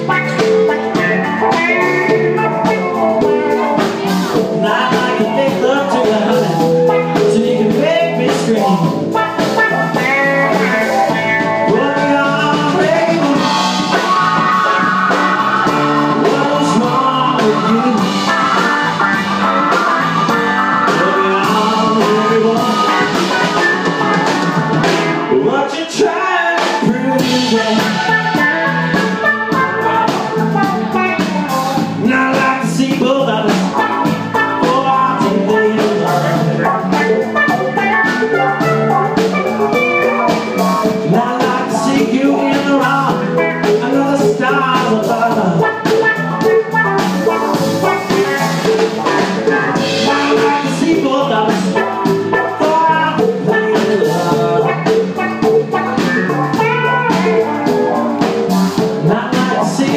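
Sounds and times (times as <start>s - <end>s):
person singing: 0.0s - 59.9s
rock-blues band playing: 0.0s - 59.9s.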